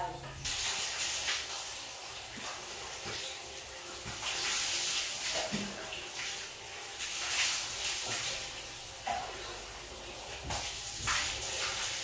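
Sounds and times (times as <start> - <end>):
soup boiling and bubbling: 0.0 - 12.0.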